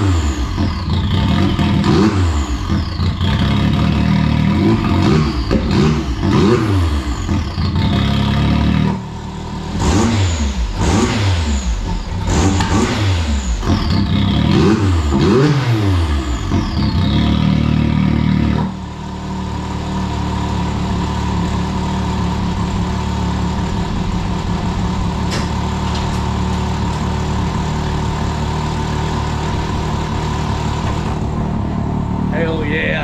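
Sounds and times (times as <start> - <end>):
engine revving and idling: 0.0 - 33.0.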